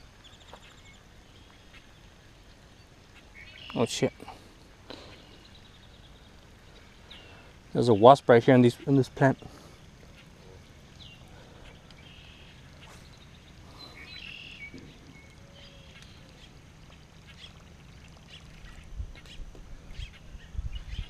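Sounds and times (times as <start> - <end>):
faint bird calls: 0.2 - 8.1, 8.7 - 21.0.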